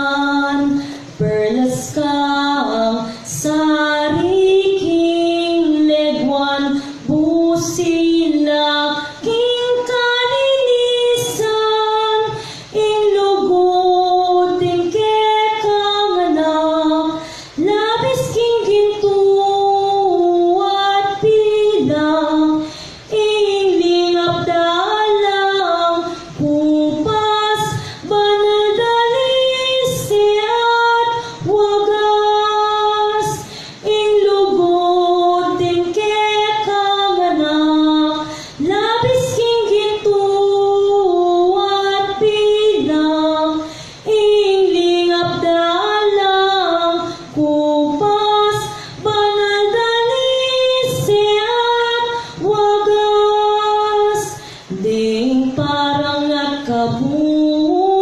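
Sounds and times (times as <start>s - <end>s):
woman singing a hymn into microphone: 0.0s - 58.0s.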